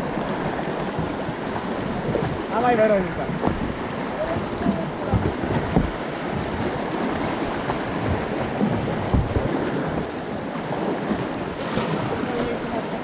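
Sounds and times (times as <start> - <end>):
paddle stroke thumps: 0.0 - 12.7
whitewater rushing: 0.0 - 13.0.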